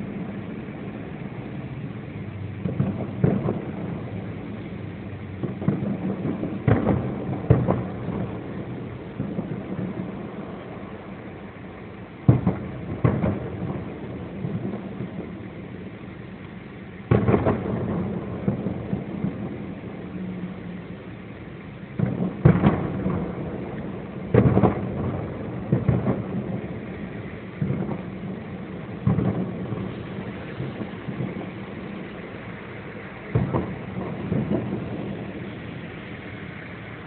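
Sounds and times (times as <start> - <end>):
fireworks booming: 0.0 - 37.0.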